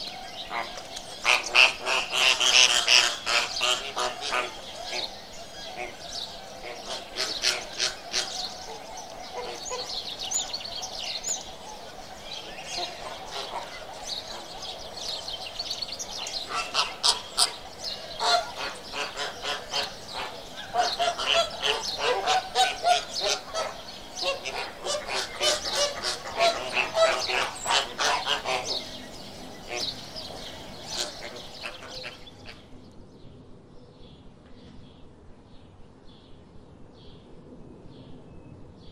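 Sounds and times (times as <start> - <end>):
flamingos honking and gabbling: 0.0 - 32.7.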